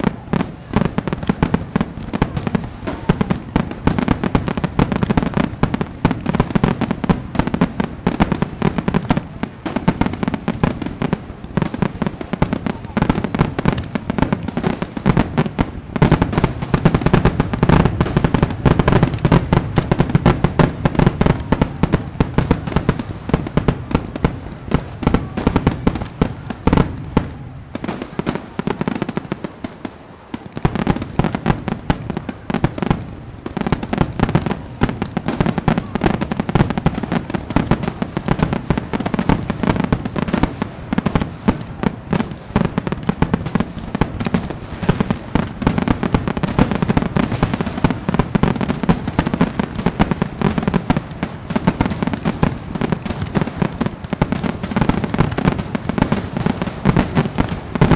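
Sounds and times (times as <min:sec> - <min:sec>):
fireworks bangs and crackling: 0:00.0 - 0:57.9.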